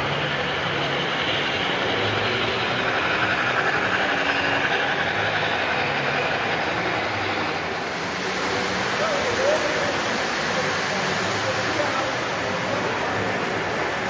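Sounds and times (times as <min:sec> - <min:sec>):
model trains rumbling: 0:00.0 - 0:14.0.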